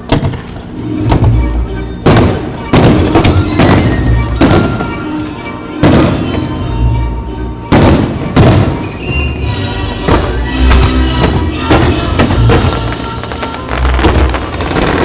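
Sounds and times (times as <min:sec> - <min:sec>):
fireworks booming: 0:00.0 - 0:06.8, 0:07.7 - 0:15.0
music playing: 0:00.0 - 0:15.0.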